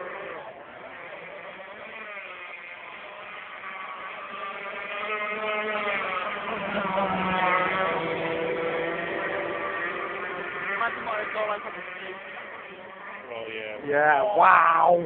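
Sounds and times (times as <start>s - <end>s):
model boat engines passing: 0.0s - 15.0s.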